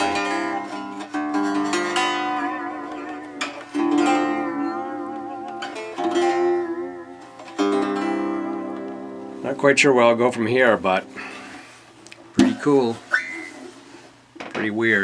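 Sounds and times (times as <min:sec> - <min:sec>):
guitar chords ringing: 0:00.0 - 0:12.7.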